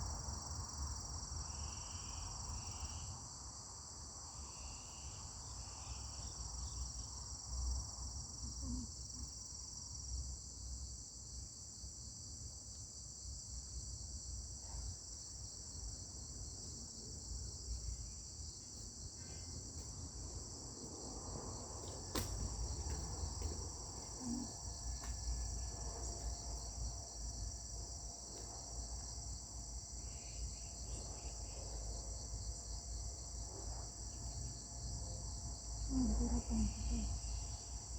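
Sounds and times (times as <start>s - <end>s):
crickets chirring: 0.0s - 11.5s, 15.0s - 37.9s.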